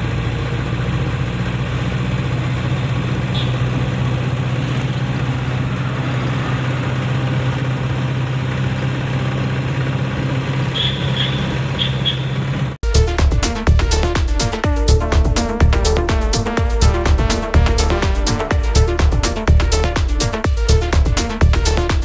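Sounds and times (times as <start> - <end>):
diesel engine humming: 0.0 - 22.0
road noise: 0.0 - 22.0.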